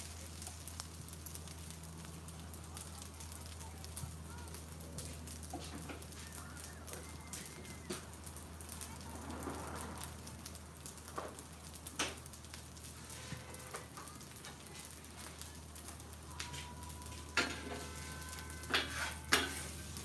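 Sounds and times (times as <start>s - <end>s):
food sizzling on a griddle: 0.0s - 20.0s.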